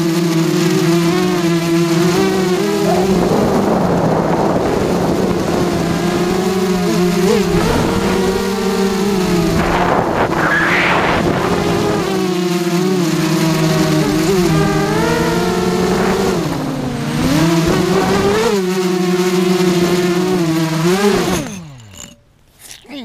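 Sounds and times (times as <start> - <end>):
quadcopter motors whining: 0.0 - 22.7.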